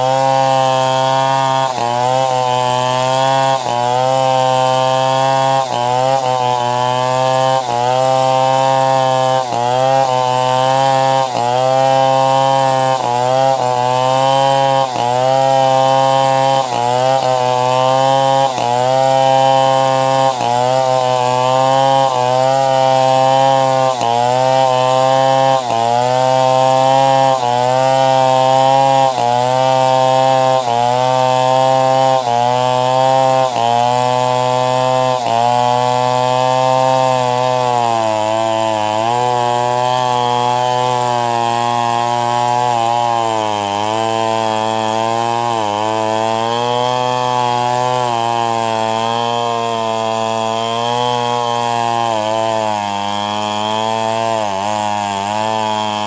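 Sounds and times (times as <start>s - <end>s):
chainsaw cutting timber: 0.0s - 56.0s.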